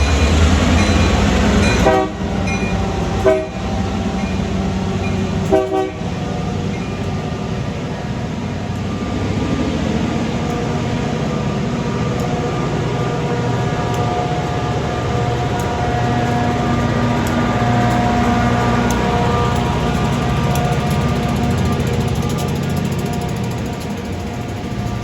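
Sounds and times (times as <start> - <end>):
train engine rumbling past: 0.0 - 25.0.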